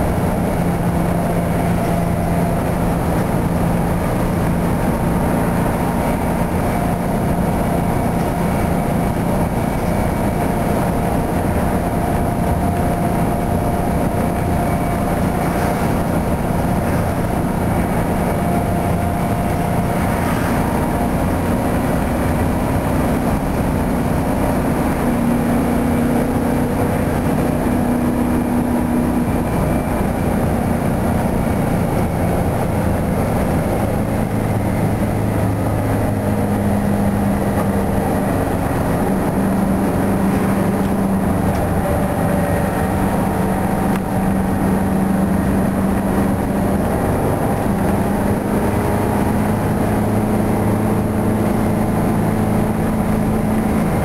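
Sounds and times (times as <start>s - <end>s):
bus diesel engine hum: 0.0s - 54.0s
road noise: 0.0s - 54.0s.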